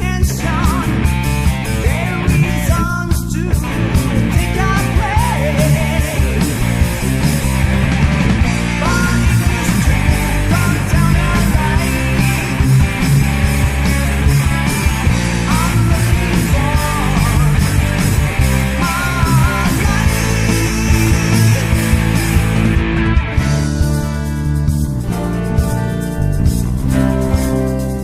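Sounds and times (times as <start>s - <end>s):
bass guitar: 0.0s - 28.0s
distorted electric guitars: 0.0s - 28.0s
fast drum beat: 0.0s - 28.0s.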